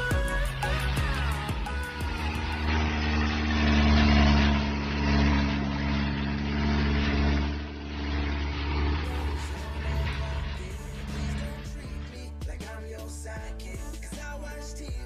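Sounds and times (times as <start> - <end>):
vehicle motor running: 0.0 - 15.0.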